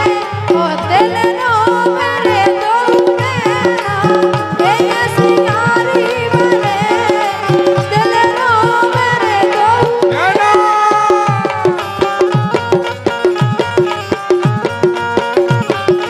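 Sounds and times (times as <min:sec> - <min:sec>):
hand drum rhythm: 0:00.0 - 0:16.0
wavering instrumental melody: 0:00.0 - 0:16.0.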